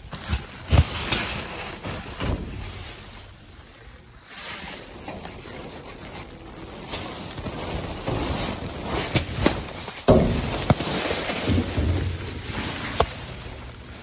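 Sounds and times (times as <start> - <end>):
plastic trash bags rustling: 0.0 - 14.0.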